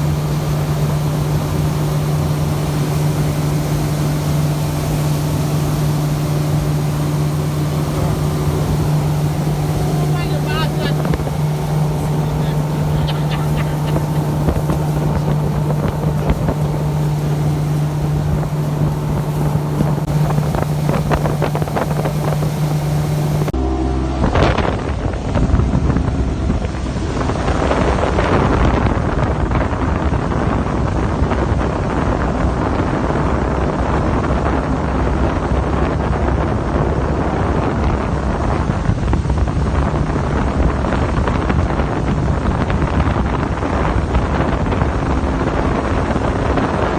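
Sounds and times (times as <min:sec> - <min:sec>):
motorboat engine running: 0:00.0 - 0:46.9
wind buffeting microphone: 0:00.0 - 0:46.9.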